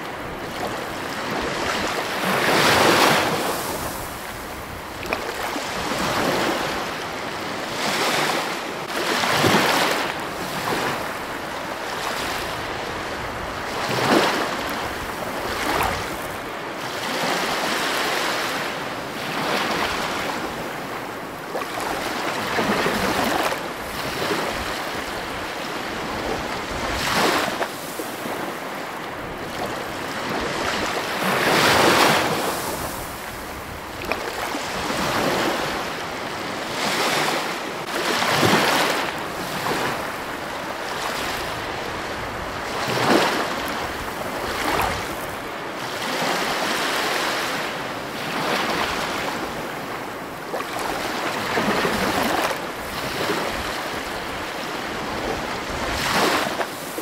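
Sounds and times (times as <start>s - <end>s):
sea waves breaking over rocks: 0.0s - 57.0s.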